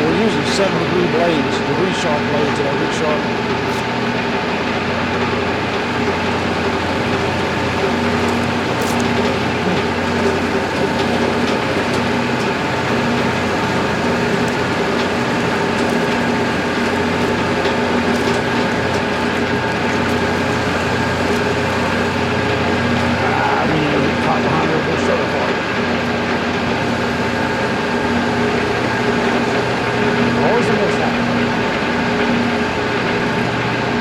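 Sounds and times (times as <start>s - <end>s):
band sawmill cutting log: 0.0s - 34.0s.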